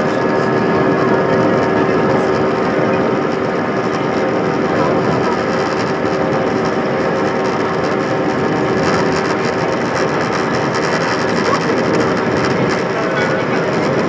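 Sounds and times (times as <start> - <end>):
jet engines droning in cabin: 0.0 - 14.0.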